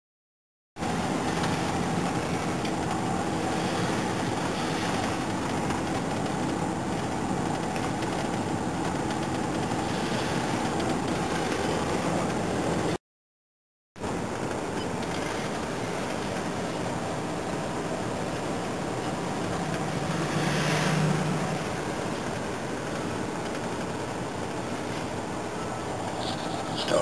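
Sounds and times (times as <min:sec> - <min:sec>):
car engine and road noise: 0:00.8 - 0:13.0, 0:14.0 - 0:27.0.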